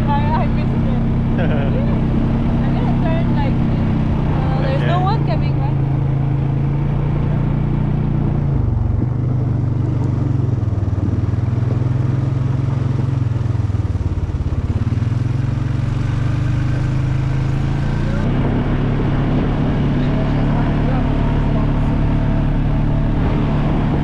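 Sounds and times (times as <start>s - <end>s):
all-terrain vehicle engine running: 0.0s - 24.0s.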